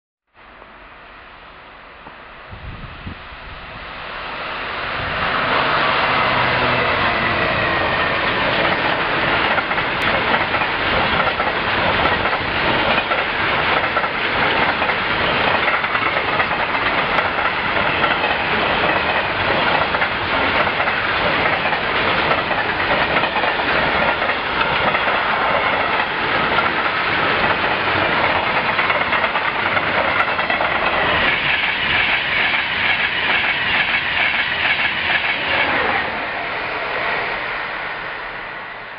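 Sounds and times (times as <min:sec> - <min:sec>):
electric express train rushing past: 0:00.4 - 0:38.9
diesel locomotive engine passing: 0:00.5 - 0:38.9.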